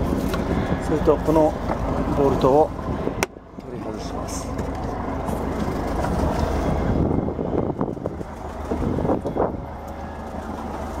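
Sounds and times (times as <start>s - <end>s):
idling engine hum: 0.0s - 11.0s
wind buffeting microphone: 0.0s - 11.0s.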